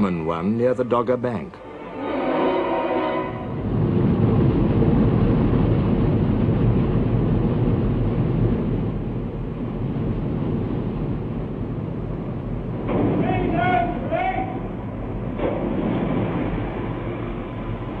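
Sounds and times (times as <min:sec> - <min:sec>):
ship engine rumble: 0:00.0 - 0:18.0.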